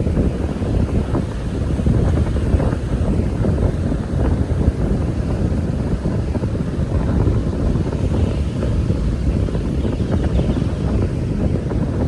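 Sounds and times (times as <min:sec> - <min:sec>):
ocean surf: 0:00.0 - 0:12.0
strong wind buffeting microphone: 0:00.0 - 0:12.0.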